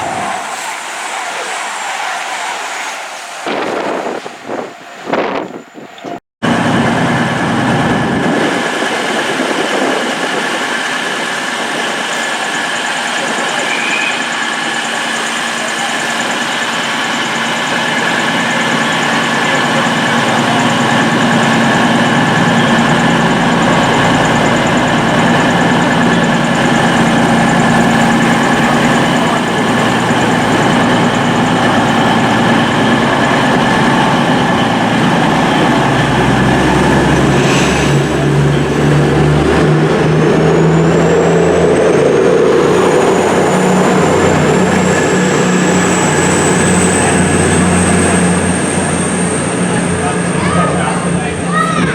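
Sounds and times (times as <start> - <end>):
train engine hum: 0.0 - 51.9.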